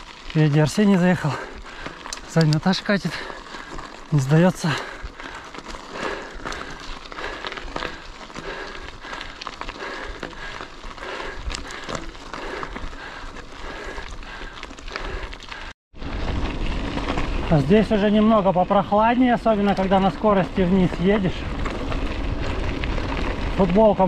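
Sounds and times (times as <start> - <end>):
bike tyres crunching on gravel: 0.0 - 24.0
low wind rumble: 0.0 - 24.0.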